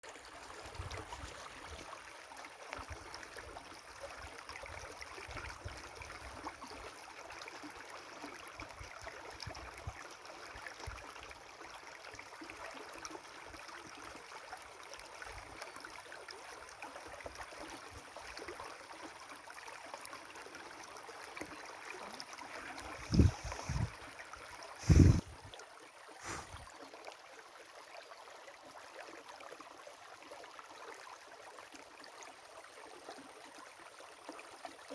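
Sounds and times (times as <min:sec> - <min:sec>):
river water flowing: 0:00.1 - 0:34.9.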